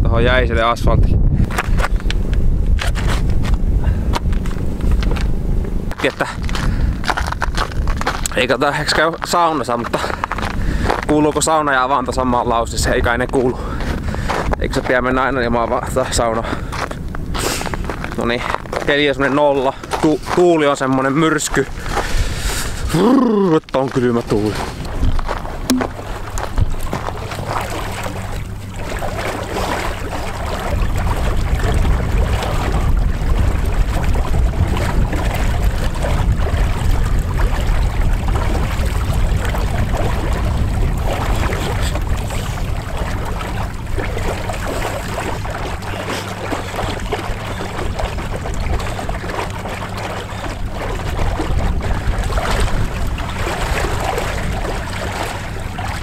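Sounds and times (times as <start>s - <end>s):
strong wind rumbling on microphone: 0.0s - 23.3s, 23.9s - 56.0s
water sloshing and splashing: 1.4s - 56.0s.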